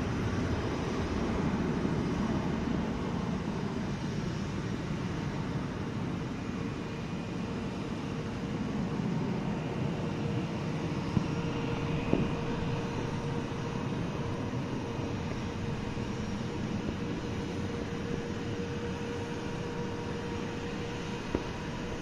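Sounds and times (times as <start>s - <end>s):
jet engines climbing: 0.0s - 22.0s.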